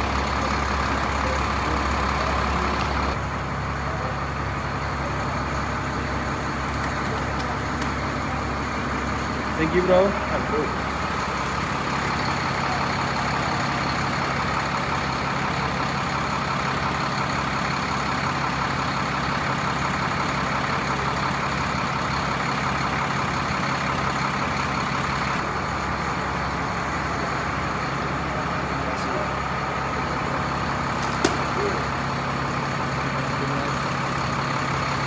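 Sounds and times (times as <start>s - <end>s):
bus engine idling: 0.0s - 35.0s.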